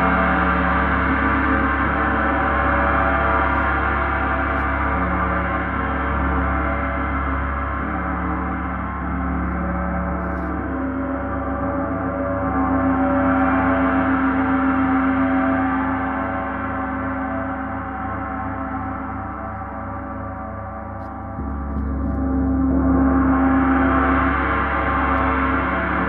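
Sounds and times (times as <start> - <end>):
deep hum: 0.0 - 26.0.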